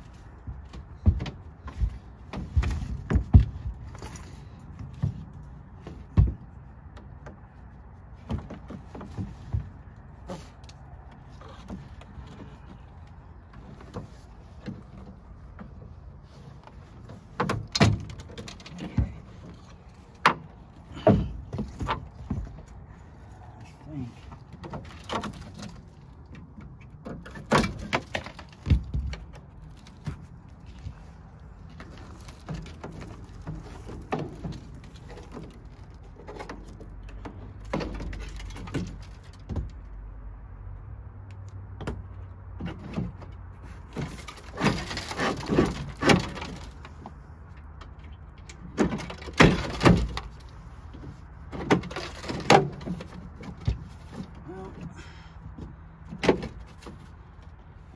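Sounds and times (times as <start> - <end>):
metal clunks and scrapes of tailgate: 8.1 - 23.7, 24.3 - 39.8, 41.8 - 57.3.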